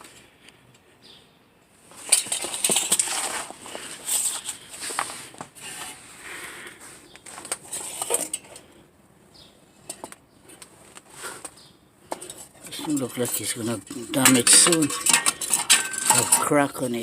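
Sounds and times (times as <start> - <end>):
metallic clattering and scraping: 1.8 - 8.8, 9.7 - 17.0.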